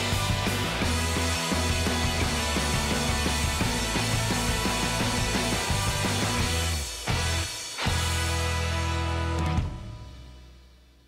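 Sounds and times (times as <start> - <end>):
rock music with steady beat: 0.0 - 10.9.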